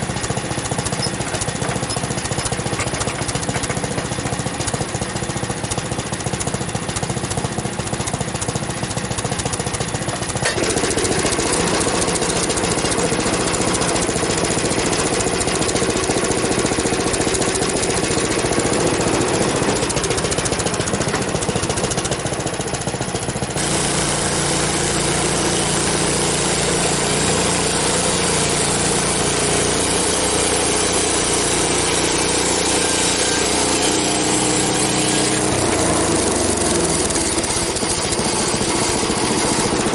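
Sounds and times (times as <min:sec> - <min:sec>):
bandsaw mill engine running: 0:00.0 - 0:39.9
band blade cutting log: 0:00.1 - 0:04.9, 0:09.8 - 0:22.4, 0:23.5 - 0:39.9.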